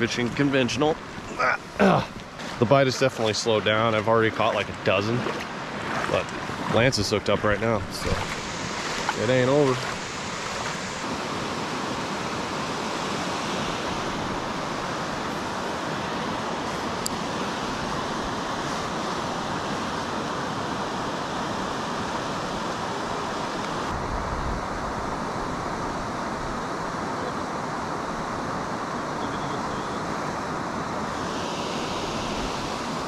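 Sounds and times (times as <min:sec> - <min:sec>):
river water rushing over rocks: 0:00.0 - 0:33.0.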